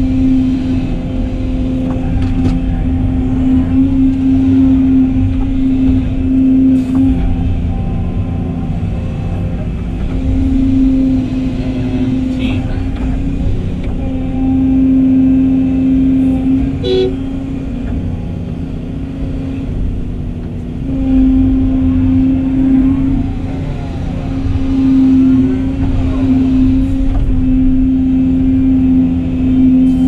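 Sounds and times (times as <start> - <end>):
excavator diesel engine: 0.0 - 30.0
gliding hydraulic whines: 0.0 - 30.0.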